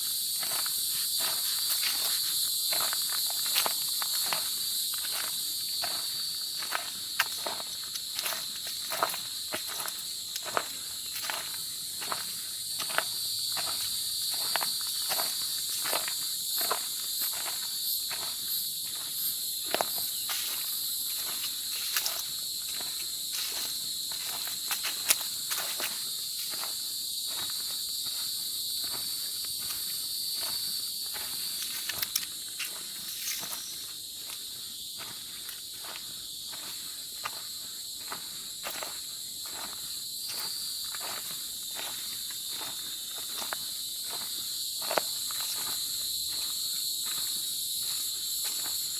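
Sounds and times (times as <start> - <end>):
footsteps on forest trail: 0.0 - 48.9
insects chorus: 0.0 - 48.9.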